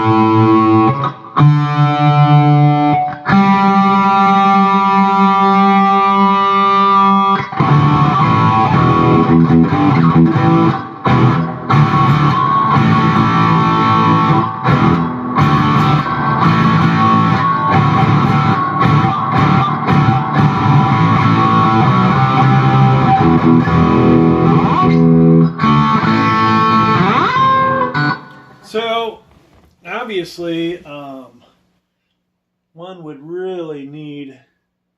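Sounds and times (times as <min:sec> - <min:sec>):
distorted electric guitar riff: 0:00.0 - 0:29.6.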